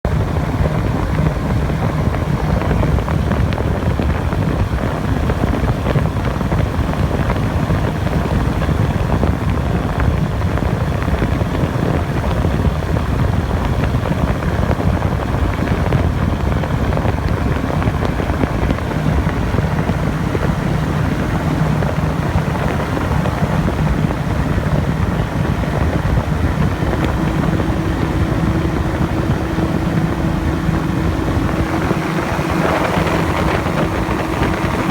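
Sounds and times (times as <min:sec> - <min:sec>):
drone propellers whirring: 0:00.1 - 0:34.9.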